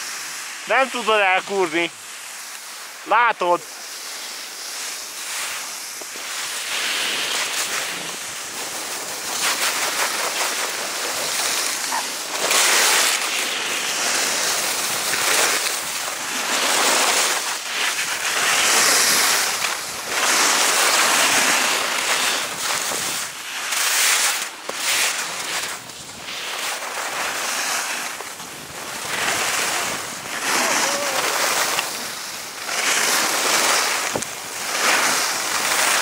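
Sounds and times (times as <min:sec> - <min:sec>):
skis scraping on icy snow: 0:00.0 - 0:36.0.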